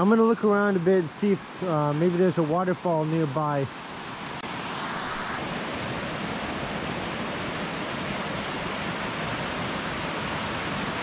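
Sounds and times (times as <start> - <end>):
mountain creek rushing: 0.0 - 11.0.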